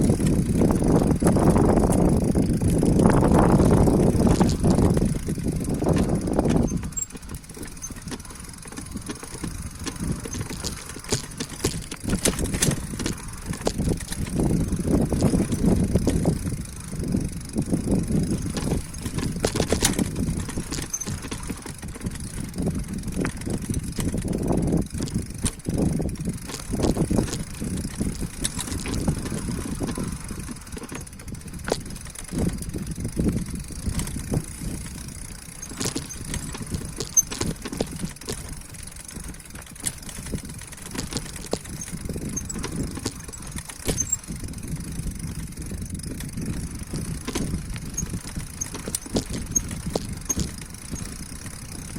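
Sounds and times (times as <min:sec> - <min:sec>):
bicycle clicks and rattles: 0:00.0 - 0:51.9
wind rumbling on microphone: 0:00.0 - 0:51.9.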